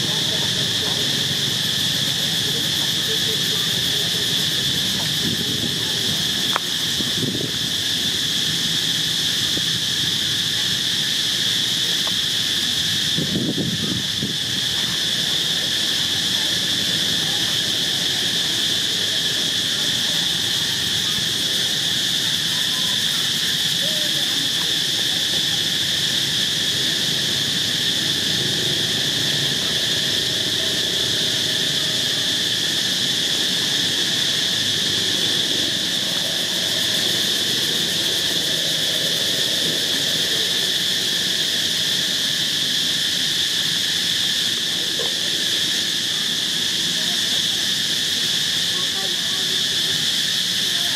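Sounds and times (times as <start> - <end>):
insects buzzing: 0.0 - 50.9.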